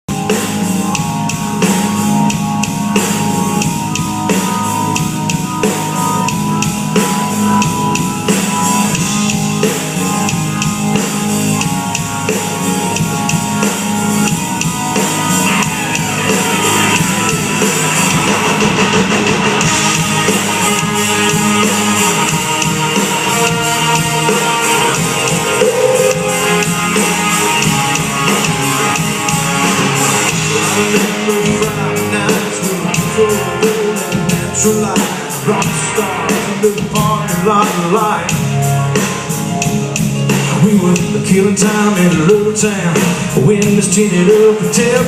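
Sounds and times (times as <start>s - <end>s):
drum kit: 0.1s - 45.0s
guitars: 0.1s - 45.0s.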